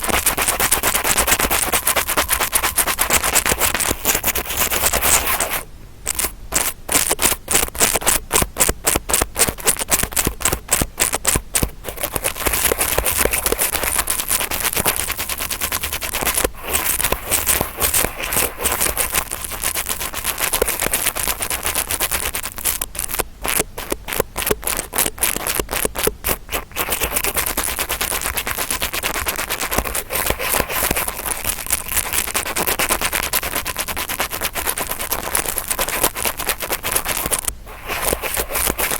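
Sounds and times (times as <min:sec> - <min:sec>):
brush scratching against microphone: 0:00.0 - 0:38.9.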